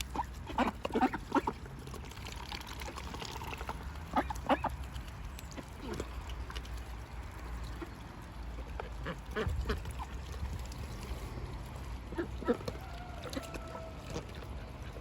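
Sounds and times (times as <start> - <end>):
ducks quacking: 0.0 - 1.9, 3.4 - 6.4, 7.6 - 15.0
low steady rumble: 0.0 - 15.0.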